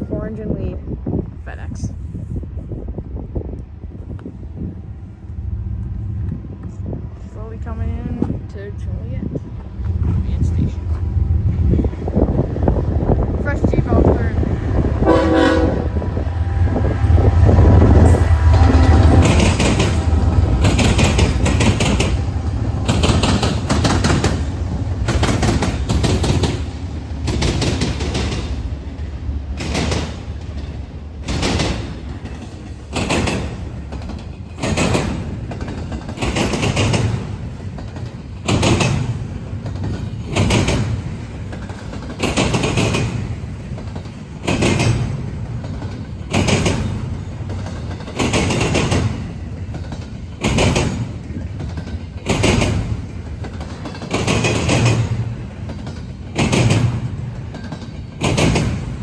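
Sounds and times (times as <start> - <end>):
locomotive rumble: 0.0 - 59.0
train wheels clacking on rail joints: 7.4 - 59.0.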